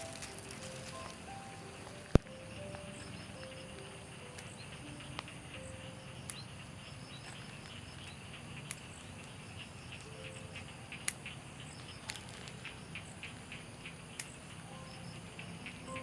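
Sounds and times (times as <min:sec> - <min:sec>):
sharp clicks: 0:00.0 - 0:05.6, 0:06.2 - 0:06.5, 0:07.6 - 0:14.6
insects buzzing and chirping: 0:00.0 - 0:16.0.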